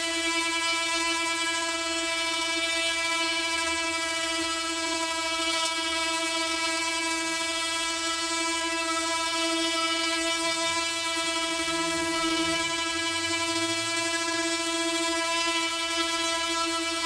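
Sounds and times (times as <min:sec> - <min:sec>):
oscillating multi-tool sanding wood: 0:00.0 - 0:17.0.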